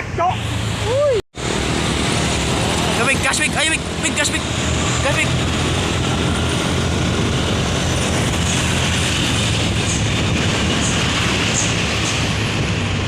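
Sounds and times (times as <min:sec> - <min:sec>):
heavy truck engine: 0:00.0 - 0:13.0.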